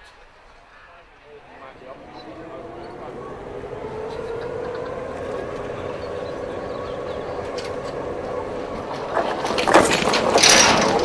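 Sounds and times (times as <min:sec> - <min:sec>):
mechanical hum: 0:01.2 - 0:11.0
loud rushing rattling noise: 0:01.3 - 0:11.0.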